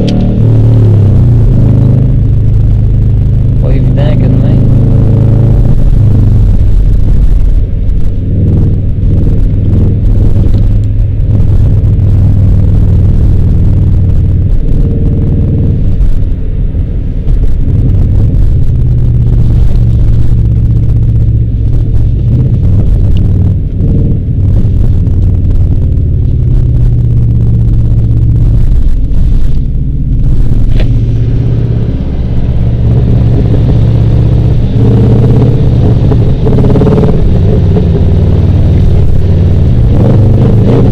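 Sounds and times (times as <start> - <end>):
car engine exhaust rumble: 0.0 - 40.9.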